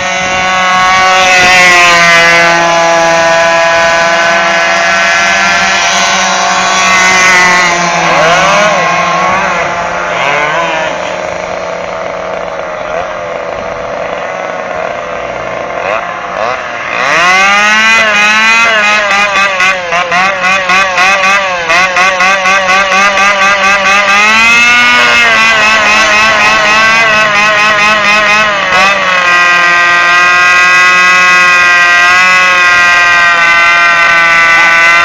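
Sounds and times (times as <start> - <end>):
model boat motor buzzing: 0.0 - 35.0.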